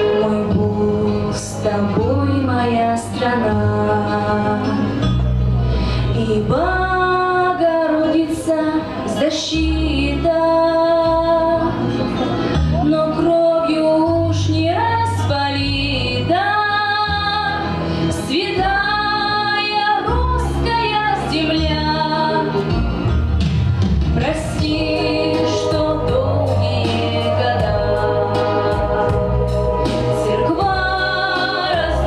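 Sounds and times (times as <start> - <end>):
woman singing: 0.0 - 5.0, 6.1 - 11.8, 12.8 - 22.7, 24.1 - 32.0
instrumental backing music: 0.0 - 32.0.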